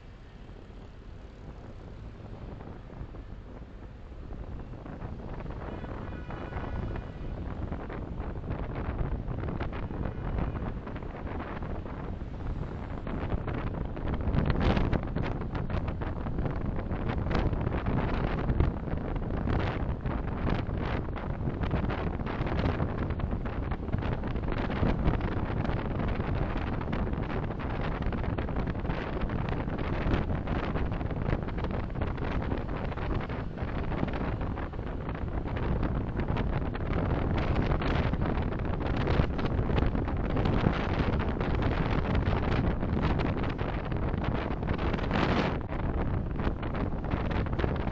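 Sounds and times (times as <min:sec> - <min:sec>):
car road and tyre noise: 0:00.0 - 0:47.9.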